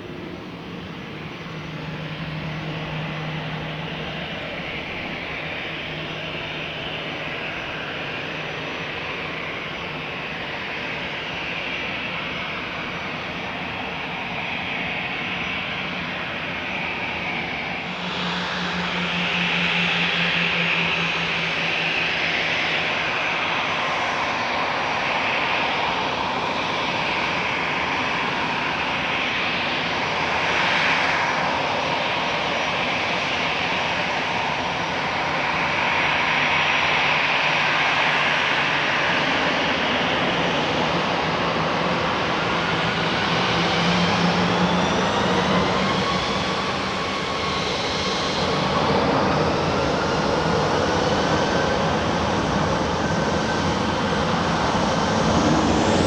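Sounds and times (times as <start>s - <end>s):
airliner engines roaring and whining: 0.0s - 56.0s.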